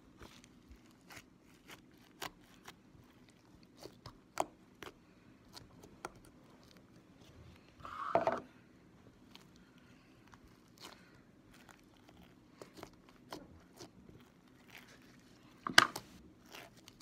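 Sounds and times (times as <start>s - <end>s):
slime squelch: 0.0s - 17.0s.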